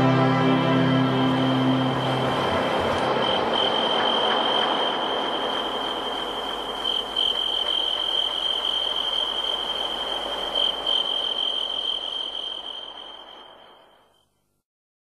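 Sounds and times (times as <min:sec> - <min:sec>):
crickets chirring: 0:00.8 - 0:14.3.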